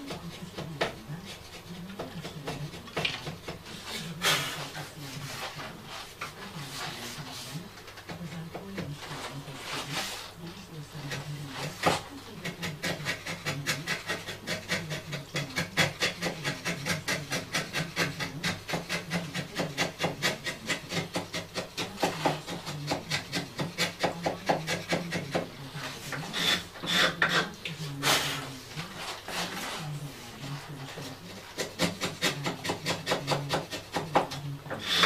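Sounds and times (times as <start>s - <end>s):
hand file rasping: 0.0s - 6.1s, 11.0s - 35.0s.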